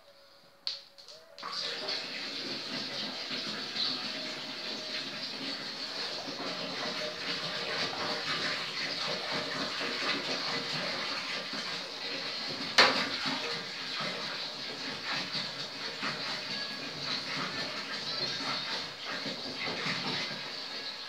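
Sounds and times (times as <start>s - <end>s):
water pouring into glass tank: 1.4s - 21.0s.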